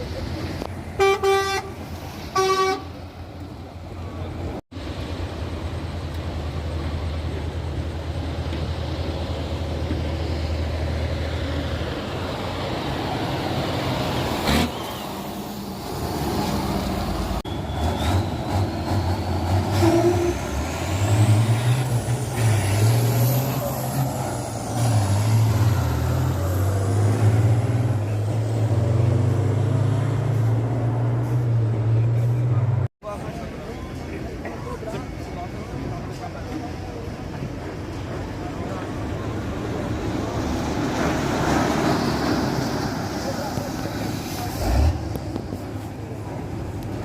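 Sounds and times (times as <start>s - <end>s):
diesel truck engines revving: 0.0s - 47.0s.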